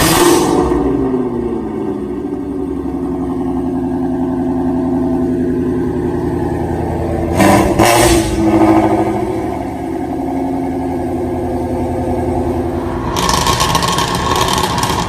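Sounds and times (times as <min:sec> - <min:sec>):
car exhaust revving: 0:00.0 - 0:15.0.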